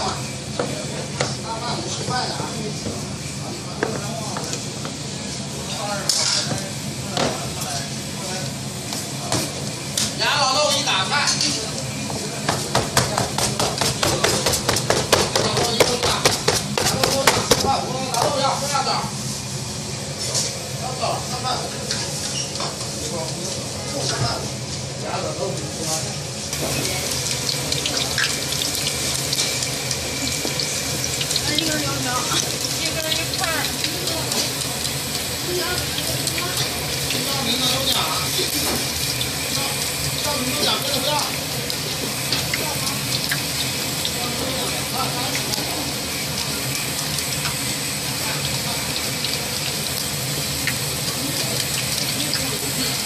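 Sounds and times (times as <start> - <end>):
dough deep-frying in hot oil: 0.0 - 53.0.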